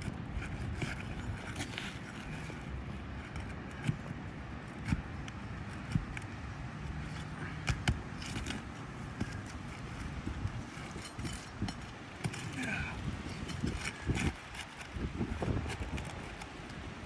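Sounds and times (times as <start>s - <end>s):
hand tools clicking and scraping: 0.0s - 17.0s
low background rumble: 0.0s - 17.0s.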